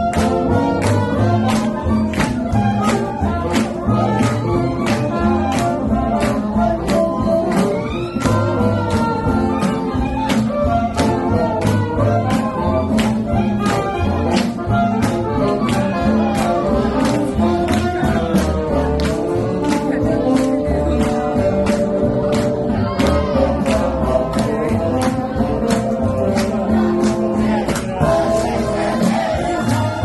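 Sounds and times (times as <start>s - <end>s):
swing jazz with singer: 0.0s - 30.0s.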